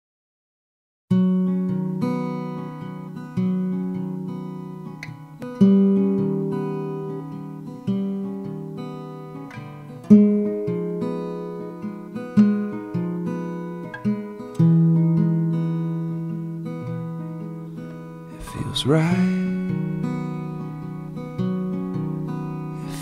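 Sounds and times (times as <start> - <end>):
acoustic guitar chords ringing: 1.1 - 23.0.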